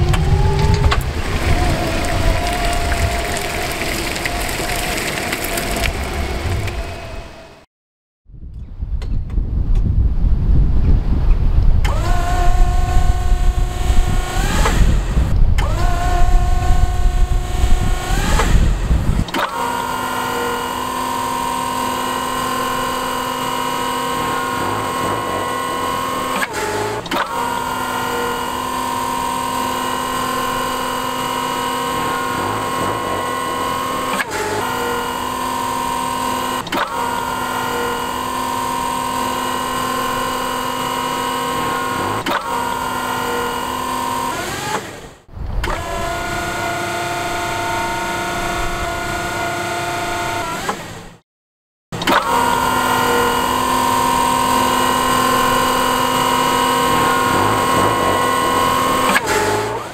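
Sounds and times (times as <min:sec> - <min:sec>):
hydraulic pump motor whining: 0:00.0 - 0:07.6, 0:11.8 - 0:51.2, 0:52.0 - 0:59.9.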